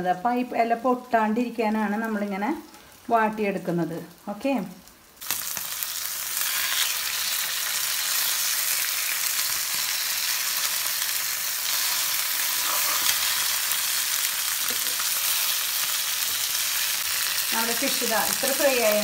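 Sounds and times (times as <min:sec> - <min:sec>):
fish sizzling in oil: 0:01.3 - 0:19.0.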